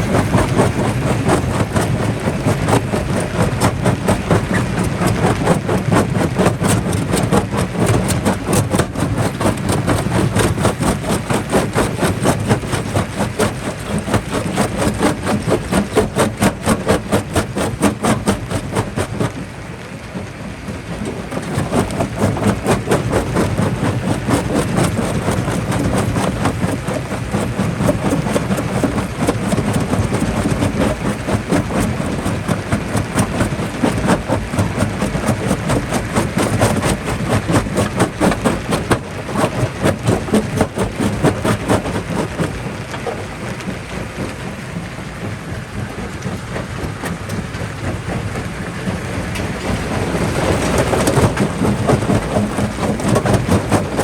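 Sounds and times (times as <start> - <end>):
rock crusher pulsing: 0.0 - 54.0.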